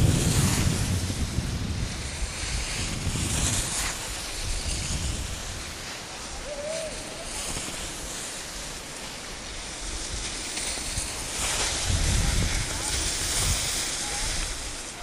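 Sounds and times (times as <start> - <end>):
skis carving across snow: 0.0 - 15.0
wind buffeting microphone: 0.0 - 15.0.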